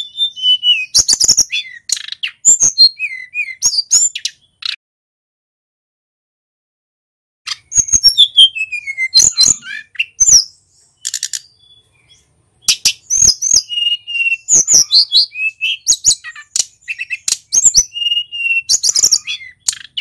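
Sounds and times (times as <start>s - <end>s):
songbird chips and whistles: 0.0s - 4.8s, 7.5s - 20.0s.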